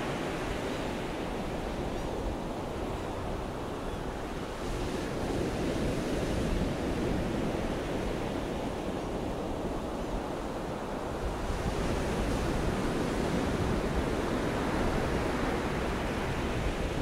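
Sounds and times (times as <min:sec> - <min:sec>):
surf washing up a beach: 0:00.0 - 0:17.0.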